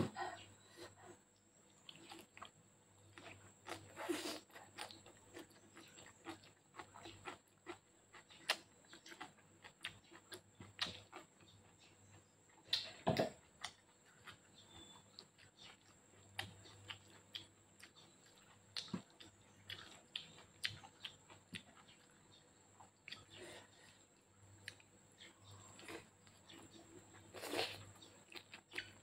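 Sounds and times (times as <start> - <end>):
wet chewing and mouth smacks: 1.4 - 29.0.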